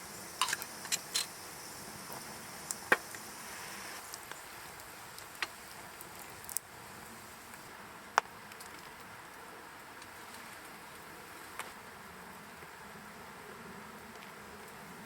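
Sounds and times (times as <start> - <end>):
firewood crackling and popping: 0.0 - 12.7
steady hiss: 0.0 - 15.0.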